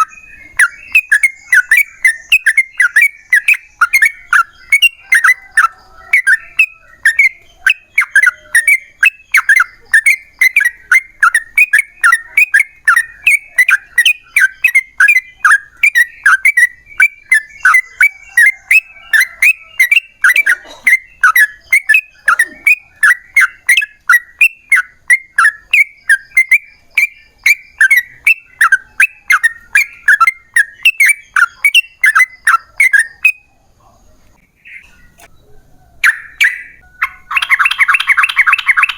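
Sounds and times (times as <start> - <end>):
bulbul singing chattering phrases: 0.0 - 38.9.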